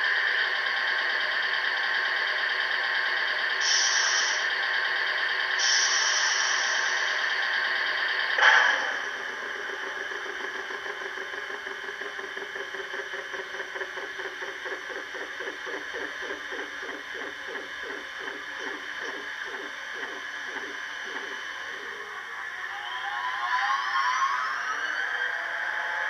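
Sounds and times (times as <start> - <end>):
train machinery whining and pulsing: 0.0 - 26.0.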